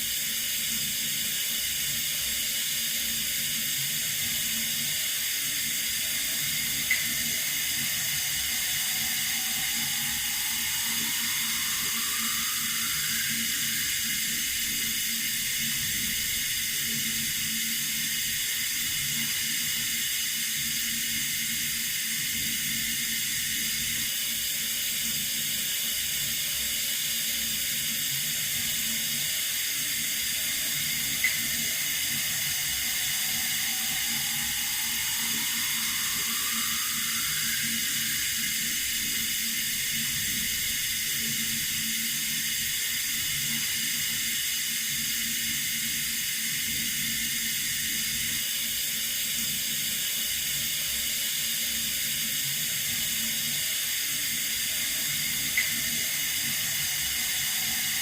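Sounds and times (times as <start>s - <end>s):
water running from a tap: 0.1s - 58.0s.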